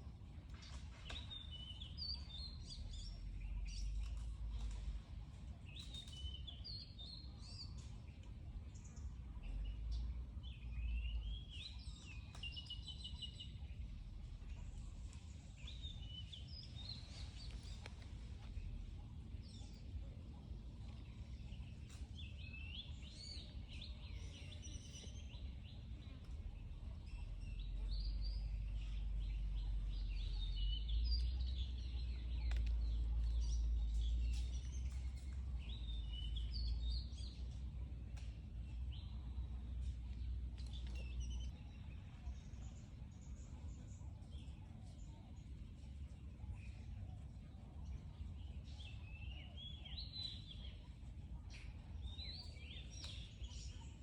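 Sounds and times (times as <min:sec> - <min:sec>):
low rumble: 0:00.0 - 0:49.0
small birds chirping and trilling: 0:00.0 - 0:54.0.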